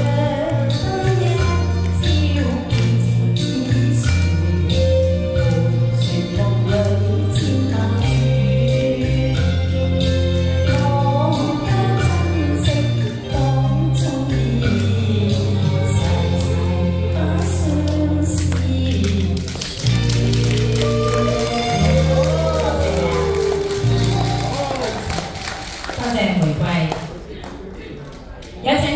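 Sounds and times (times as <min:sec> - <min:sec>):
woman singing into microphone: 0:00.0 - 0:24.5
instrumental accompaniment with beat: 0:00.0 - 0:26.0.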